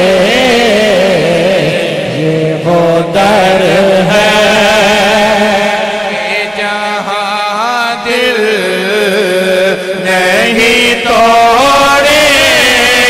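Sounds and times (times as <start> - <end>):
men singing devotional hymn: 0.0 - 13.0.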